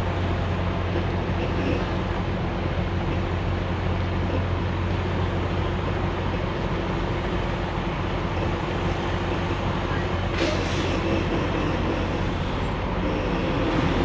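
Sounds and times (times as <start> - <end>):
road noise: 0.0 - 14.0
truck engine drone: 0.0 - 14.0.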